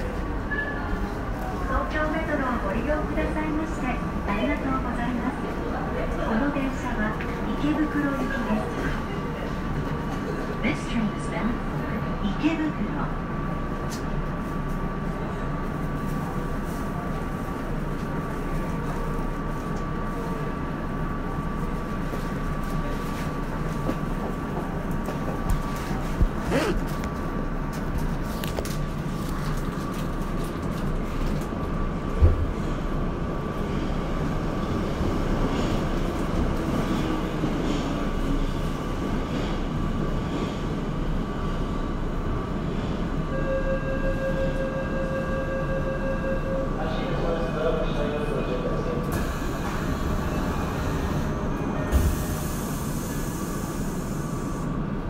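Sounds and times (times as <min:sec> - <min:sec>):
subway train low hum and rumble: 0:00.0 - 0:55.0.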